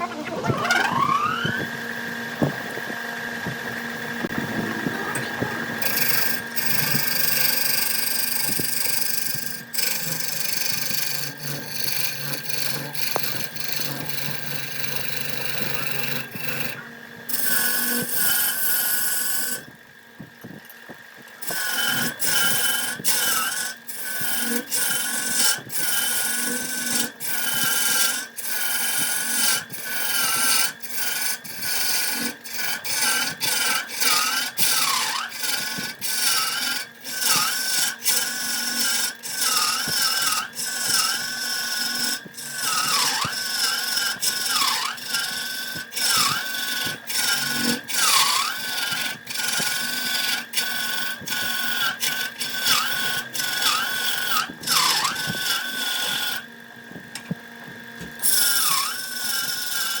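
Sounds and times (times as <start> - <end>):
wood lathe whining: 0.0 - 60.0
cutting tool scraping wood: 4.2 - 19.7, 20.3 - 56.5, 58.0 - 60.0.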